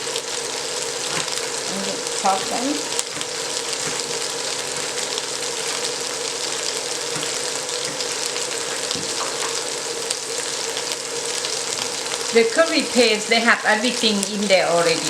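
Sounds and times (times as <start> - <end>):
curry paste sizzling in oil: 0.0 - 15.0.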